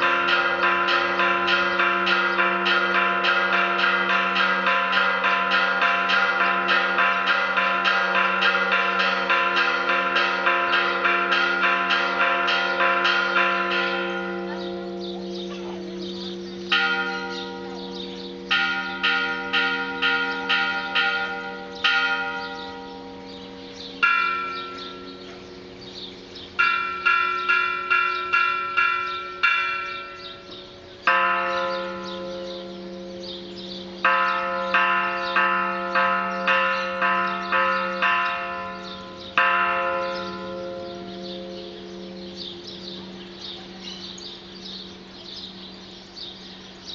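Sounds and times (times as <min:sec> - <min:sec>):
deep bell humming: 0:00.0 - 0:46.9.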